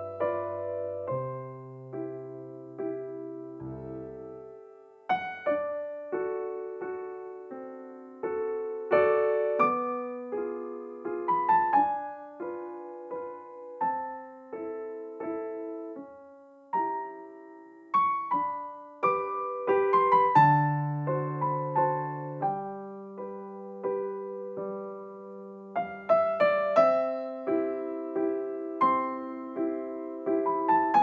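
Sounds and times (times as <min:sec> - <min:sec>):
gentle piano piece: 0:00.0 - 0:31.0.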